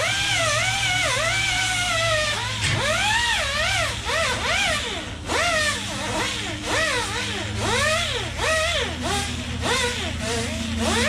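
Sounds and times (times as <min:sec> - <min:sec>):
power grinder whining: 0:00.0 - 0:11.0
steady low hum: 0:00.0 - 0:11.0.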